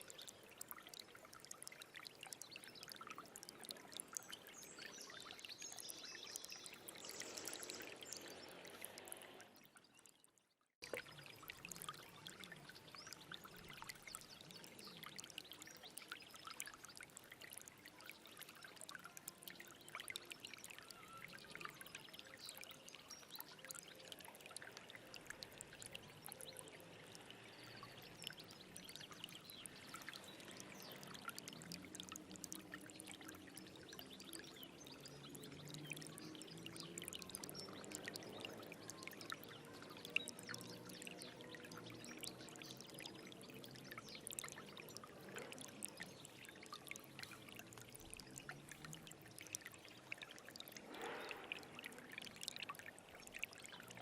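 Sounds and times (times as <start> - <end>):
stream water splashing: 0.0 - 10.0, 10.8 - 54.0.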